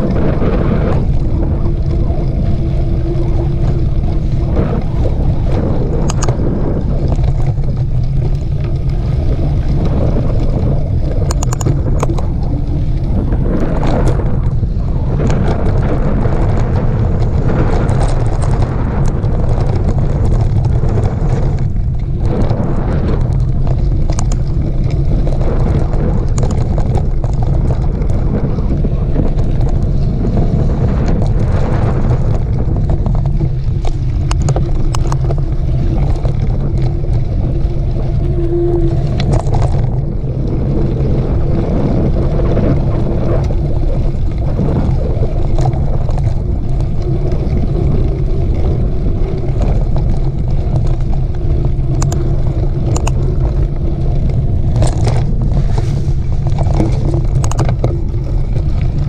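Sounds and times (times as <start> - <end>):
bike clicks and rattles: 0.0 - 59.0
wind buffeting microphone: 0.0 - 59.0.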